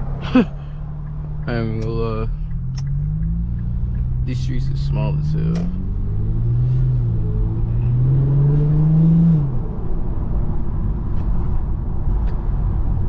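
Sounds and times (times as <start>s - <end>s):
car engine accelerating: 0.0s - 11.4s.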